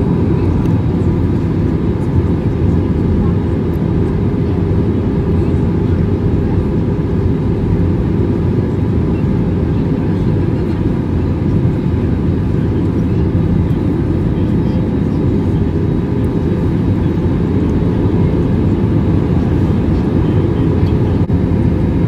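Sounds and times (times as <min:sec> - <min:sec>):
airflow over fuselage: 0:00.0 - 0:22.0
airliner cabin engine rumble: 0:00.0 - 0:22.0.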